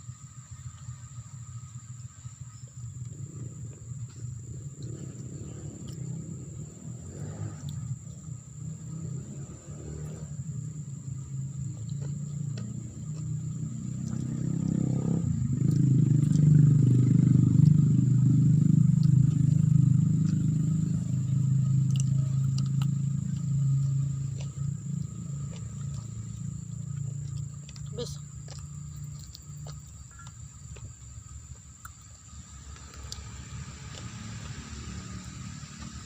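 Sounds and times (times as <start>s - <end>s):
motor engine humming: 0.0s - 36.0s.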